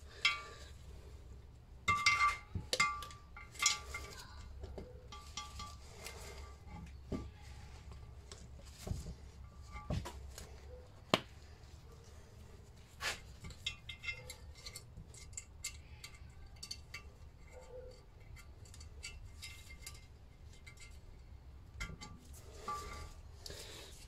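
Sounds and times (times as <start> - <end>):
metallic clicks and scrapes: 1.8 - 24.0.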